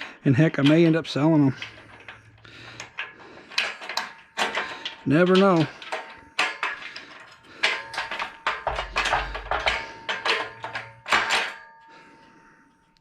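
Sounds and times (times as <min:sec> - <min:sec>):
metal rails knocking and clattering: 0:00.0 - 0:12.3.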